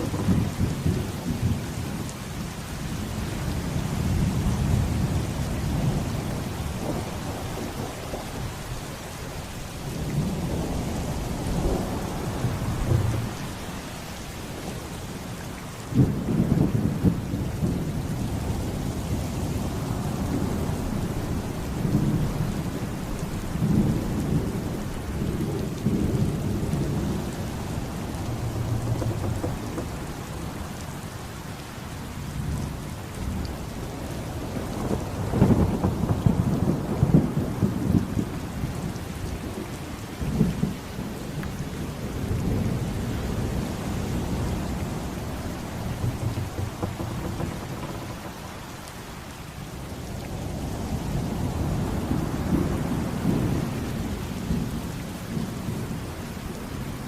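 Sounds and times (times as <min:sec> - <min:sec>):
rolling thunder: 0:00.0 - 0:02.0, 0:04.0 - 0:14.4, 0:16.0 - 0:31.3, 0:34.3 - 0:54.8
rain falling steadily: 0:00.0 - 0:57.0.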